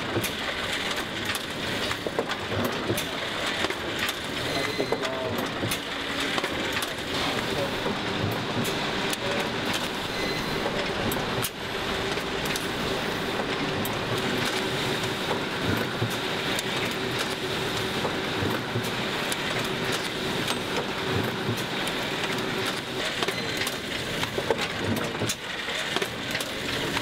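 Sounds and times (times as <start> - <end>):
machine clattering clicks: 0.1 - 7.5, 10.6 - 27.0.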